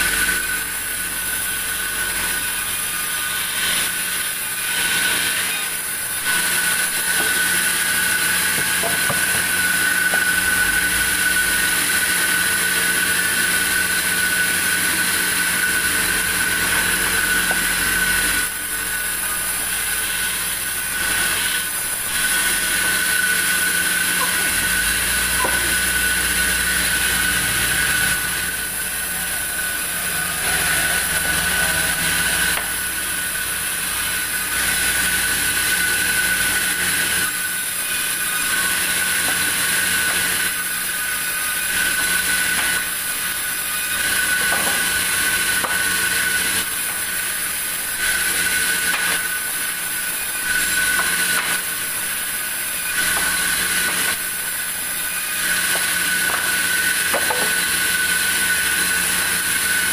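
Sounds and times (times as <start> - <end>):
band saw whining: 0.0 - 59.9.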